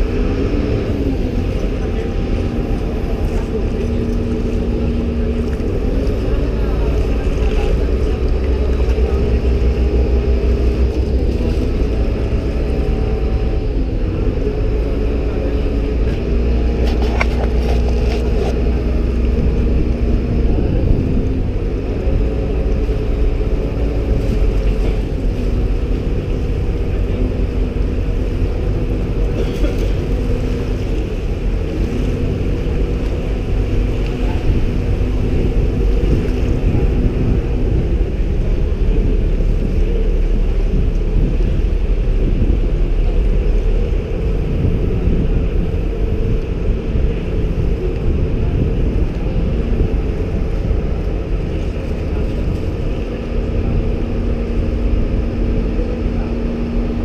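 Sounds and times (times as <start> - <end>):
boat engine droning: 0.0 - 57.0
steady rumble: 0.0 - 57.0.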